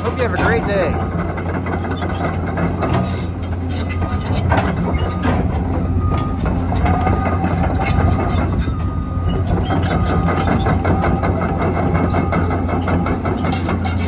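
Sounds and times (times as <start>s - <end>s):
diesel engine hum: 0.0s - 14.0s
steel tracks clanking and rattling: 0.0s - 14.0s
high squeals: 0.2s - 5.3s, 6.7s - 14.0s.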